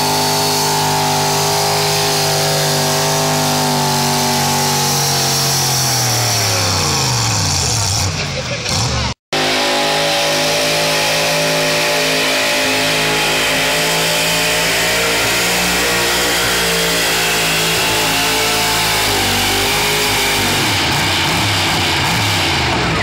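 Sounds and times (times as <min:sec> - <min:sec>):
engine running at high revs: 0:00.0 - 0:23.0.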